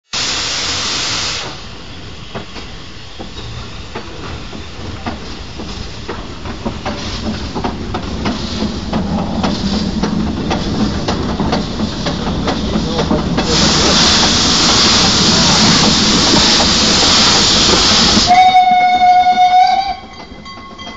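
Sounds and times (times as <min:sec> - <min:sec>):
loud steam hiss: 0:00.0 - 0:19.9
steam locomotive chuffing: 0:00.2 - 0:20.9
low locomotive rumble: 0:01.6 - 0:20.9.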